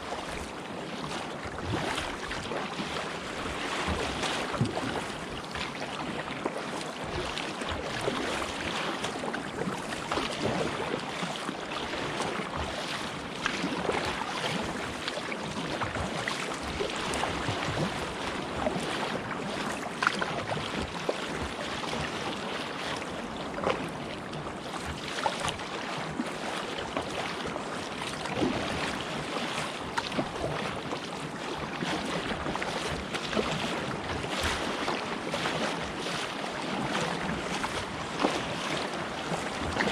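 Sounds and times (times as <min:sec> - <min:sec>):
water splashing around kayak: 0:00.0 - 0:39.9.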